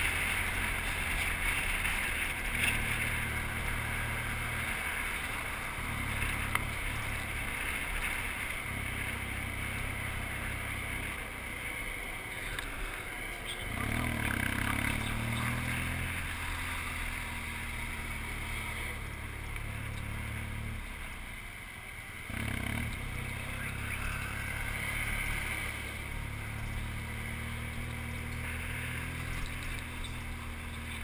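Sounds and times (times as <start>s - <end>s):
motorcycle engine riding: 0.0s - 31.0s.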